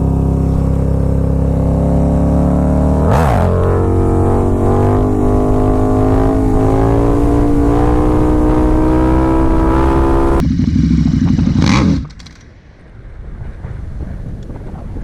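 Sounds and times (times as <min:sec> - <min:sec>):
motorcycle engine at high revs: 0:00.0 - 0:12.5
engine low rumble: 0:00.0 - 0:15.0.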